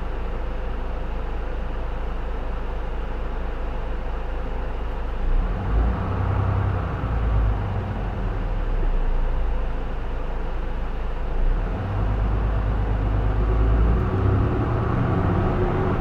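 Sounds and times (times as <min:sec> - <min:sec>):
bus diesel engine hum: 0:00.0 - 0:16.0.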